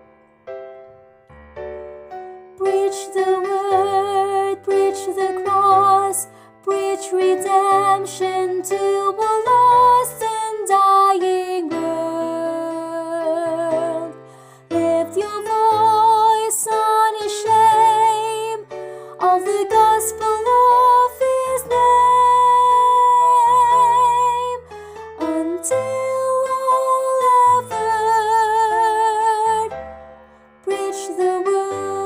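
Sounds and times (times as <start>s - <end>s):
instrumental accompaniment: 0.0s - 32.0s
soprano singing with vibrato: 2.6s - 29.7s, 30.6s - 32.0s.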